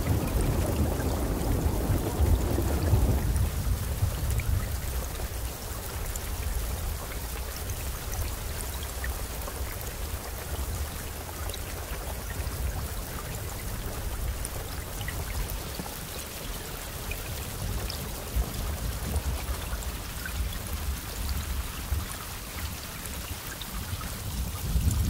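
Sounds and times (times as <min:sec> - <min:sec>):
raindrop ticks: 0:00.0 - 0:25.0
steady rainfall: 0:00.0 - 0:25.0.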